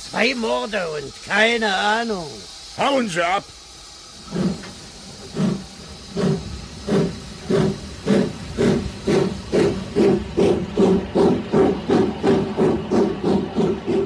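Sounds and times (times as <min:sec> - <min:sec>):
steam hissing: 0:00.0 - 0:14.0
steam locomotive exhaust chuffs: 0:00.0 - 0:14.0.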